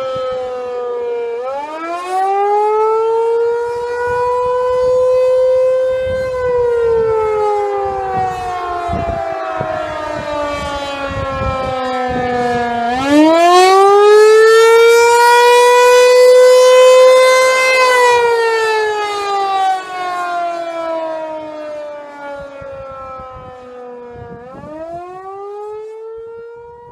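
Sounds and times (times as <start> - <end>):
warning siren wailing: 0.0 - 26.9.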